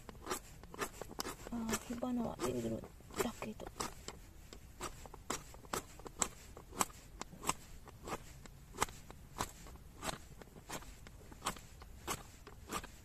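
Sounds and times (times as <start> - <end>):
ferrocerium rod scraped with flint: 0.0 - 13.0.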